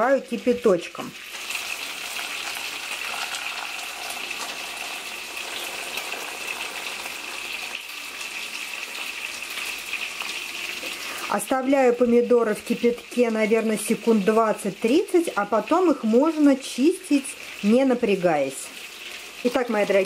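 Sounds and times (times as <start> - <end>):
water pouring and splashing into pan: 0.0 - 11.5, 12.6 - 20.0.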